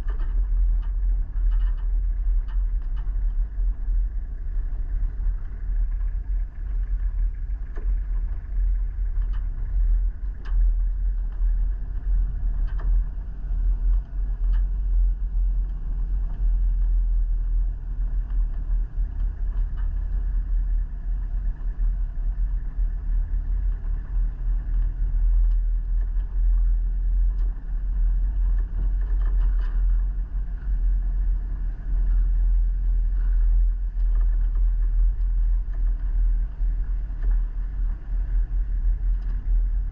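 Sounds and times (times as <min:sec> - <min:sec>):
engine and road rumble: 0:00.0 - 0:39.9
faint clicks and rattles: 0:00.0 - 0:39.9.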